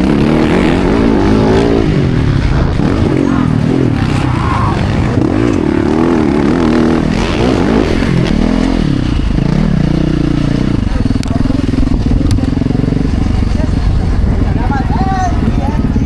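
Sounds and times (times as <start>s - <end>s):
motocross engines revving: 0.0s - 16.0s.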